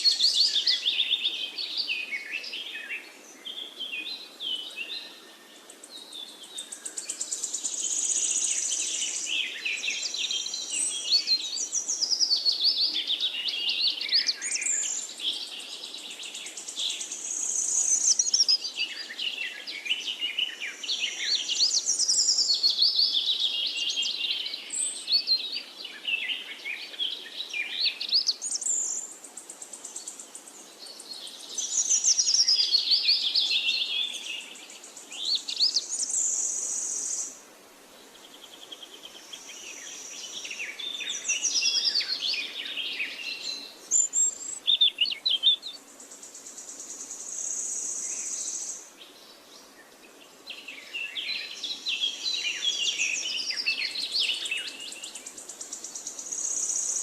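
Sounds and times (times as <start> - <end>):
faint steady background hiss: 0.0 - 57.0
songbirds singing and chirping: 0.0 - 57.0.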